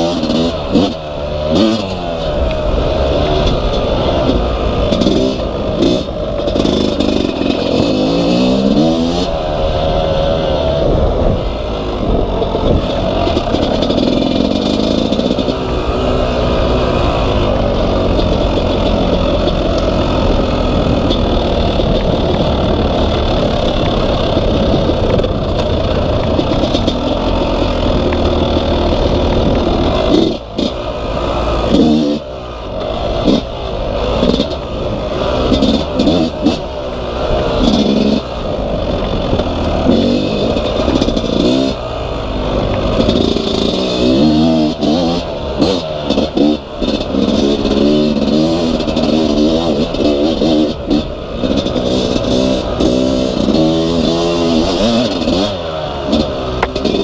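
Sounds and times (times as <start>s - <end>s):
two-stroke dirt bike engine revving: 0.0s - 57.0s.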